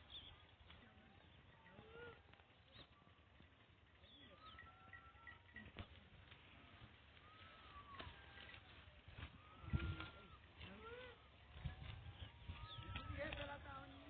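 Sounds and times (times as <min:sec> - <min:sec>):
faint bird chirps and calls: 0:00.0 - 0:06.0, 0:06.7 - 0:14.0.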